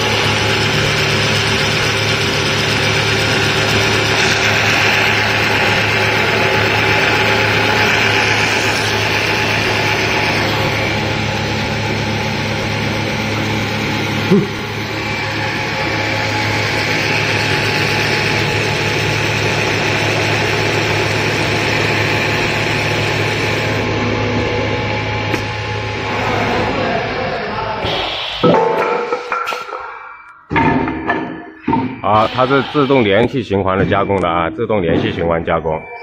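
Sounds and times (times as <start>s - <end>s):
machine hum: 0.0s - 36.0s.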